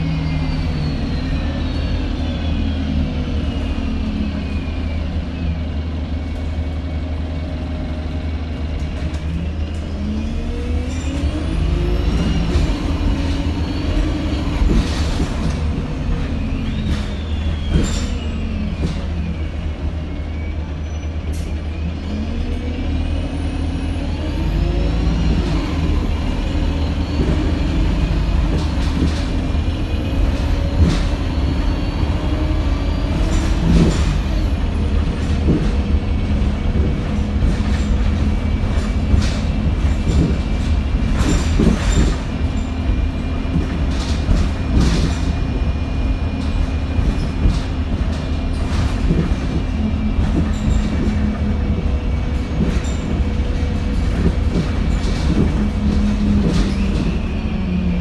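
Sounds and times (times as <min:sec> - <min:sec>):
bus engine and road rumble: 0:00.0 - 0:58.0
bus body rattling: 0:05.2 - 0:21.8, 0:23.2 - 0:58.0.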